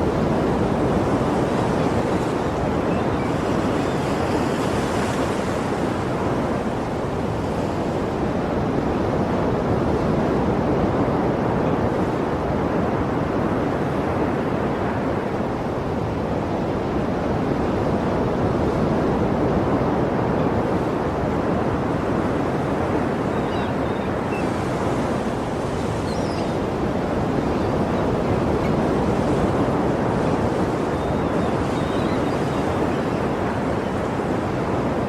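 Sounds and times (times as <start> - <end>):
sea waves washing on shore: 0.0 - 35.0.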